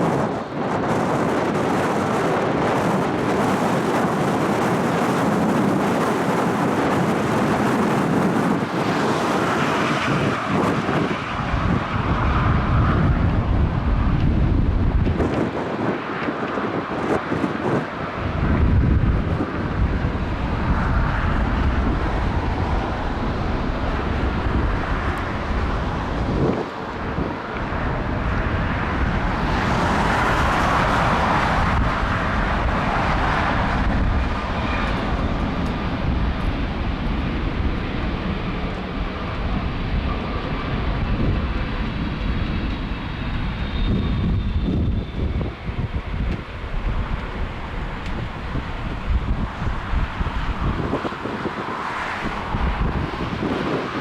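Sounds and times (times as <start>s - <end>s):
jet engines passing: 0.0s - 54.0s
wind rumble on microphone: 0.0s - 54.0s.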